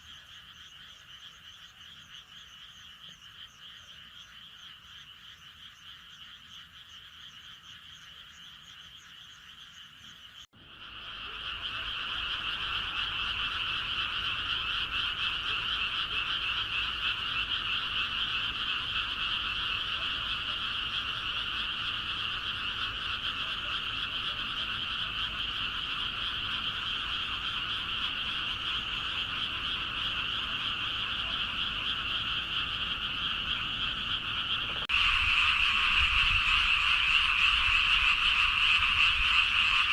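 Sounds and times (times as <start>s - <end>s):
dense frog chorus: 0.0s - 39.9s
frogs croaking: 0.0s - 39.9s.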